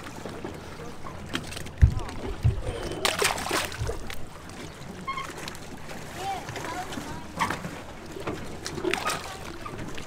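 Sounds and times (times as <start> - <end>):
rush of water: 0.0 - 10.0.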